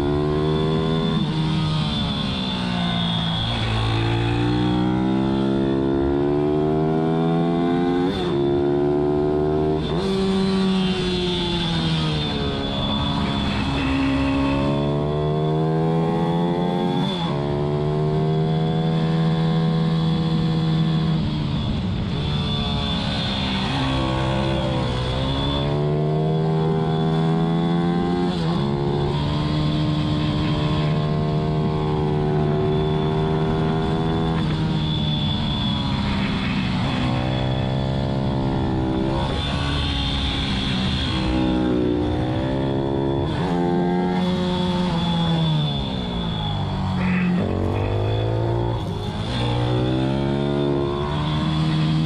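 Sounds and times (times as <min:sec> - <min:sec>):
motorbike engine accelerating: 0:00.0 - 0:52.0.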